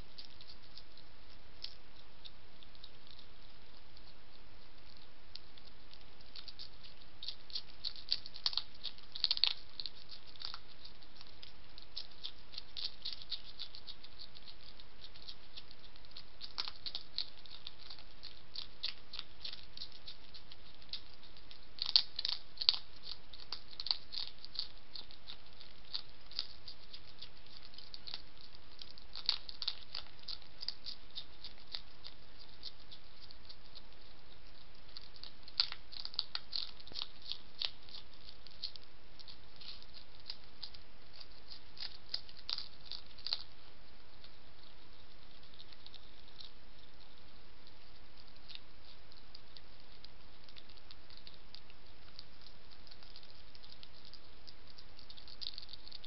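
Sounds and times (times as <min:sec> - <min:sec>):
hedgehog crunching food: 0:00.0 - 0:56.0
steady background hiss: 0:00.0 - 0:56.0.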